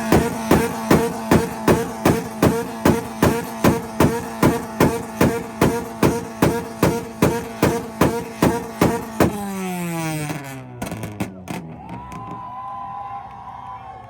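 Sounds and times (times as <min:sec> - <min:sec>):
sharp exhaust bangs: 0:00.0 - 0:12.0
car engine on launch limiter: 0:00.0 - 0:12.3.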